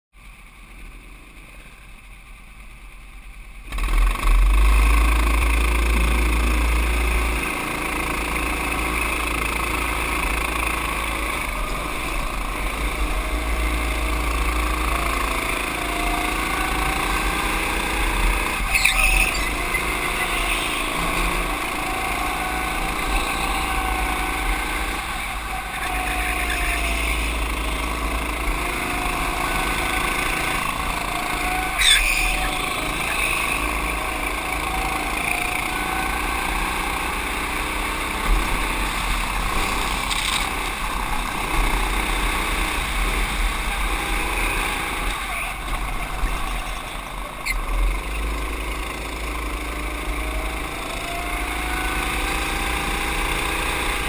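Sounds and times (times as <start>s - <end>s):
go-kart engines: 0.2s - 54.0s.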